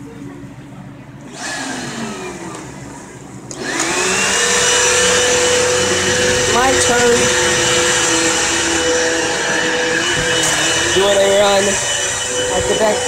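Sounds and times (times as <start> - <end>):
vacuum cleaner motor whine: 1.3 - 13.0.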